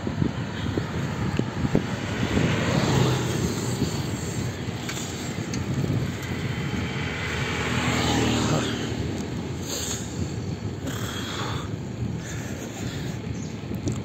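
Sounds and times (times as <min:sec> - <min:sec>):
bicycle road rumble: 0:00.0 - 0:14.0
wind buffeting microphone: 0:00.0 - 0:14.0.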